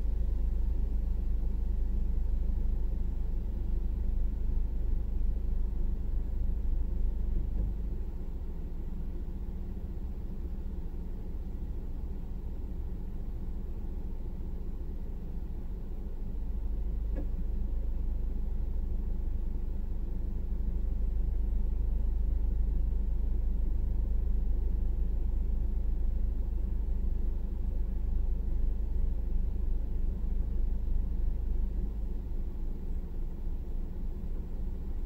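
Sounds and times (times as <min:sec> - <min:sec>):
vehicle idling rumble: 0:00.0 - 0:35.0.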